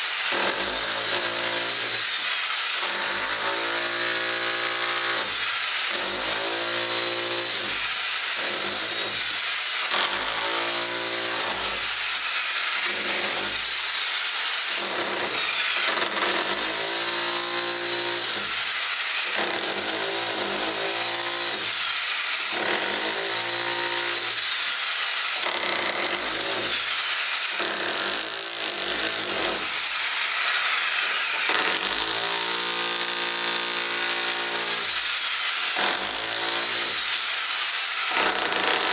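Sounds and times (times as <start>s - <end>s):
rotary hammer chiselling concrete: 0.0s - 38.9s.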